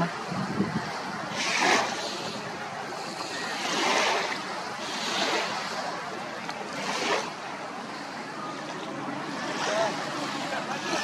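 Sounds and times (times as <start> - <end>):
small waves washing onto beach: 0.0 - 11.0.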